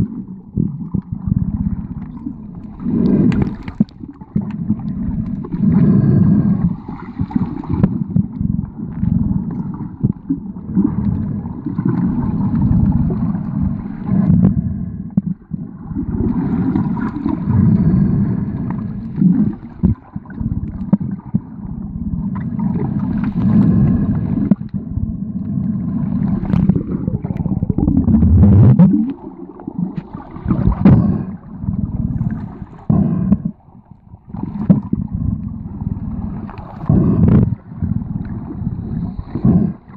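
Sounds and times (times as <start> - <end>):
underwater rumbling and gurgling: 0.0 - 39.9.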